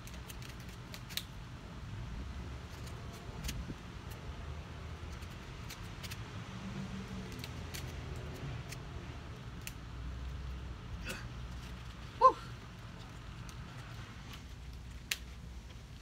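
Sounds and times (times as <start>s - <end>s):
low outdoor background rumble: 0.0s - 16.0s.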